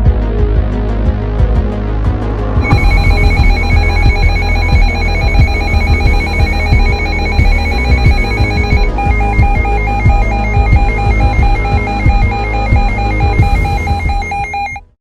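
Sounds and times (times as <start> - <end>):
music with throbbing bass: 0.0 - 14.9
trilling electronic ringtone: 2.6 - 15.0.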